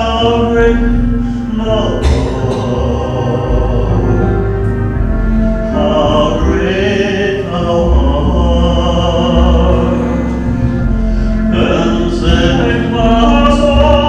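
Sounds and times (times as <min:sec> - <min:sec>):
instrumental backing track: 0:00.0 - 0:14.0
man singing a hymn through speaker: 0:00.0 - 0:14.0.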